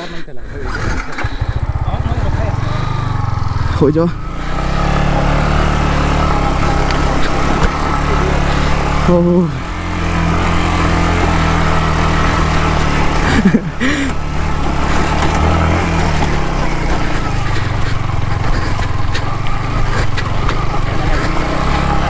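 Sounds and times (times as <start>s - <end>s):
motorcycle engine running: 0.6s - 22.0s.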